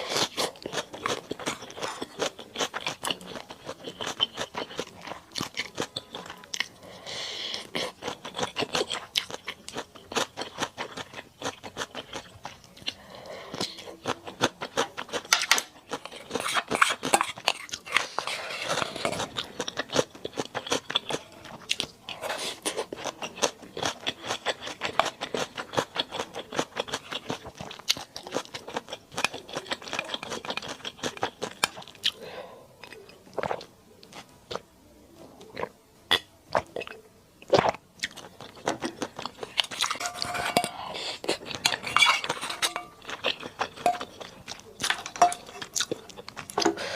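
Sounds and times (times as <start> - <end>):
chewing and crunching: 0.0 - 32.2, 35.4 - 46.9.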